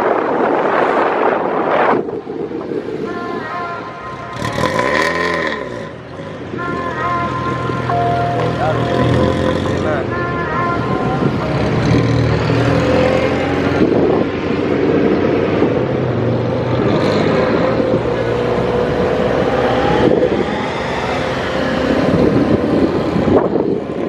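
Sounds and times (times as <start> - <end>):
road noise: 0.0 - 24.0
wind noise: 0.0 - 24.0.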